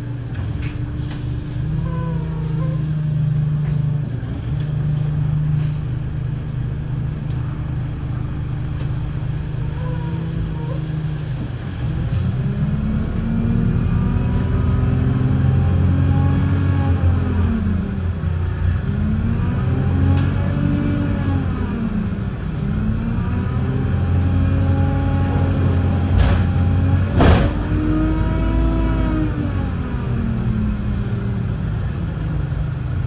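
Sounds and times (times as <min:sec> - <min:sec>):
bus diesel engine idling and revving: 0:00.0 - 0:33.0.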